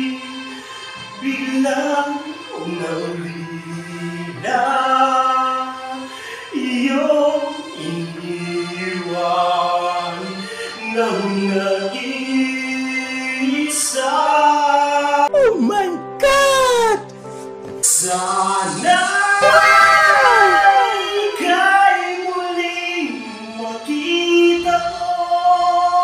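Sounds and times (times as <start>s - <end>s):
man singing long notes: 1.1s - 17.1s, 17.8s - 26.0s.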